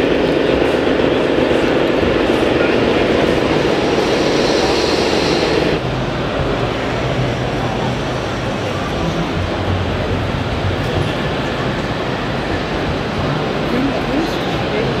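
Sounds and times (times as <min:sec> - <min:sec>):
many voices: 0:00.0 - 0:15.0.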